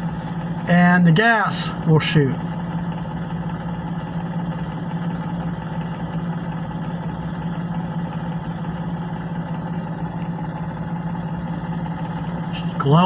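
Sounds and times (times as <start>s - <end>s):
furnace blower humming: 0.0s - 13.0s.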